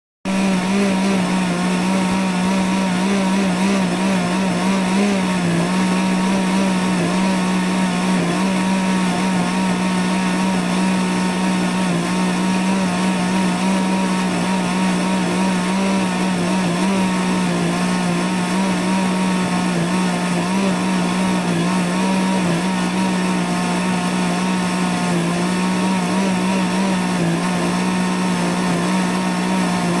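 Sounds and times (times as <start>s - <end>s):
electric blender running: 0.2s - 30.0s.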